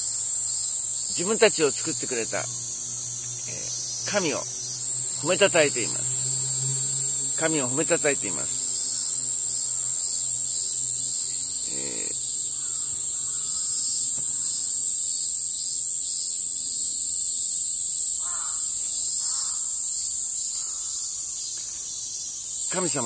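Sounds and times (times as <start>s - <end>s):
cicadas singing: 0.0s - 23.0s.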